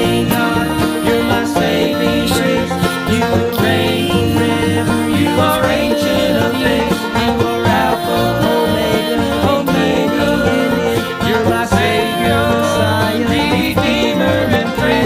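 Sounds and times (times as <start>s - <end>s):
banjo picking: 0.0s - 15.0s
bluegrass band playing: 0.0s - 15.0s.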